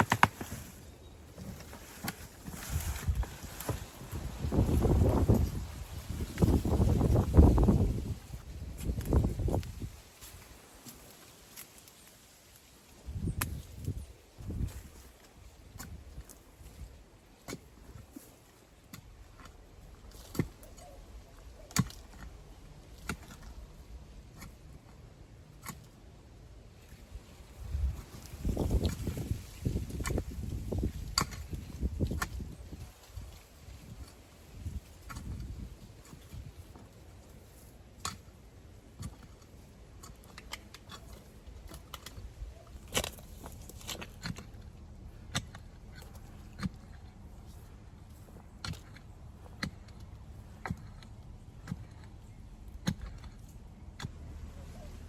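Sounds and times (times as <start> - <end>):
dry corn stalks snapping: 0.0 - 0.8, 1.4 - 24.6, 26.9 - 54.2.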